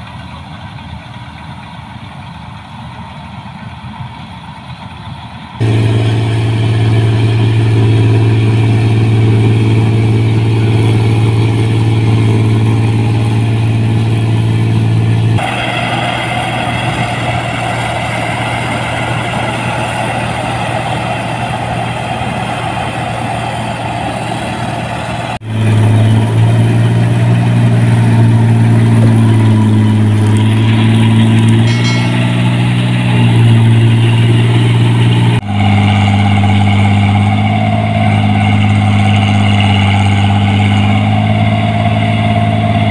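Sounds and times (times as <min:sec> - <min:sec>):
combine harvester engine drone: 0:00.0 - 0:42.9.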